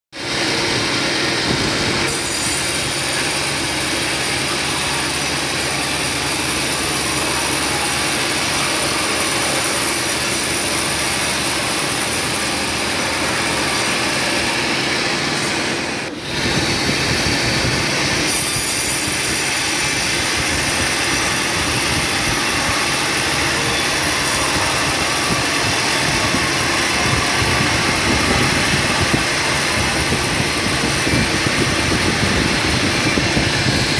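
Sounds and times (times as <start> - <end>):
sawmill bandsaw cutting log: 0.2 - 33.9.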